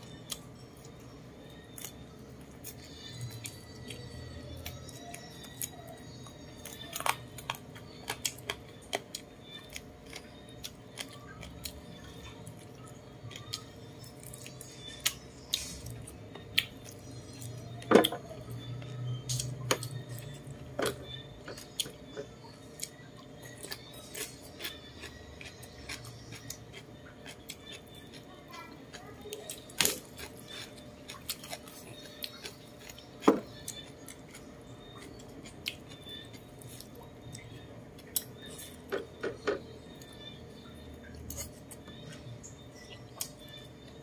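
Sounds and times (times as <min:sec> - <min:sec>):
chewing: 0:00.0 - 0:44.0
low steady hum: 0:00.0 - 0:44.0.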